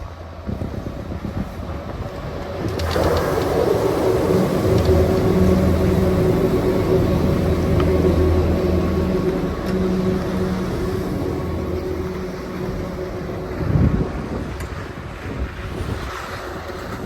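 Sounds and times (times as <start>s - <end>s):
rushing noise: 2.2s - 17.0s
chairlift mechanical hum: 2.4s - 17.0s.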